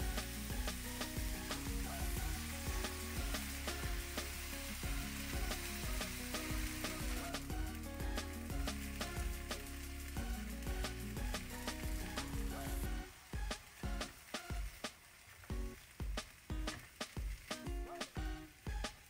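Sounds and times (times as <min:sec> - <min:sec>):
background music: 0:00.0 - 0:19.0
cabbage sizzling in a frying pan: 0:00.0 - 0:19.0.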